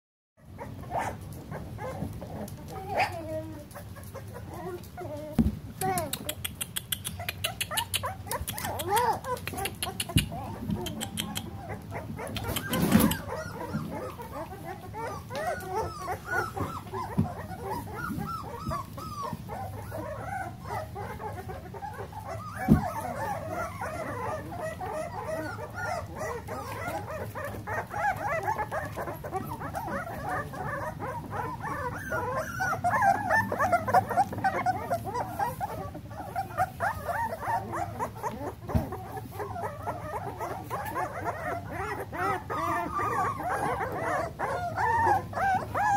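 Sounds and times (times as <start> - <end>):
puppies squealing and yipping: 0.4 - 45.9.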